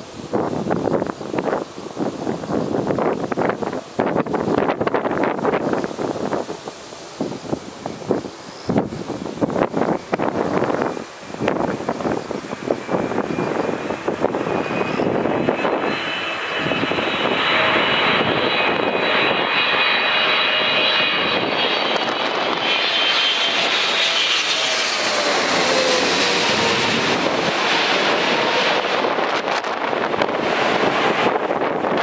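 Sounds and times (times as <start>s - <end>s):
jet engines whining overhead: 0.0s - 32.0s.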